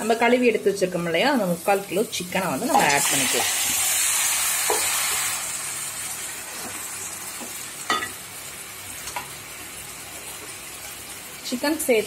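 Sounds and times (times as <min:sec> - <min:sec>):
chicken sizzling in oil: 0:01.1 - 0:12.0.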